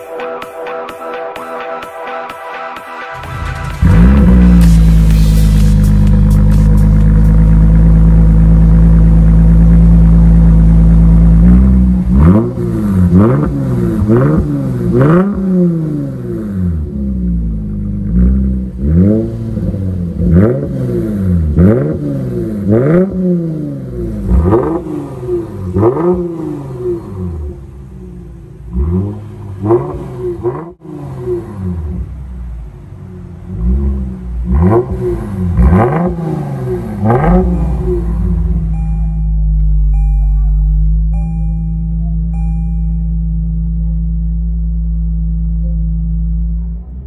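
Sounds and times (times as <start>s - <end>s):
car engine revving: 3.0s - 47.0s.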